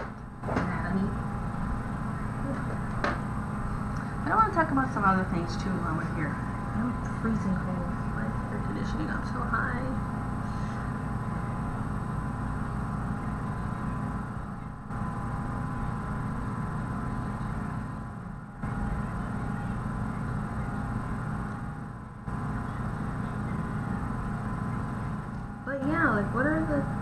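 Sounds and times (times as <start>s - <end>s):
air conditioner humming: 0.0s - 27.0s
faint steady whine: 0.0s - 27.0s.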